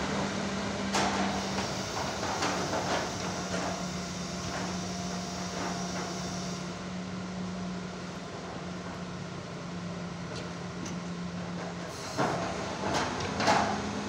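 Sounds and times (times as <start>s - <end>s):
diesel engine and hydraulics running: 0.0s - 14.0s.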